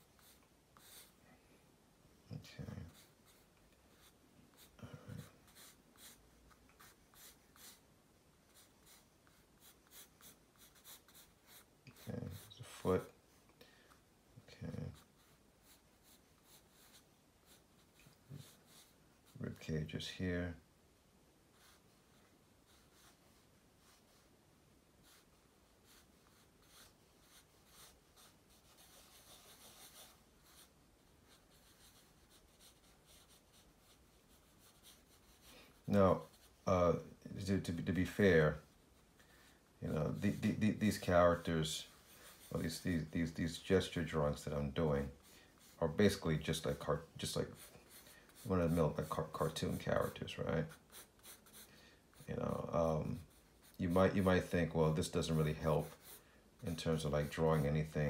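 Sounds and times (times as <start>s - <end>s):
pencil scratching on paper: 0.0s - 1.2s, 2.8s - 13.4s, 14.9s - 19.6s, 21.5s - 24.3s, 25.0s - 58.0s.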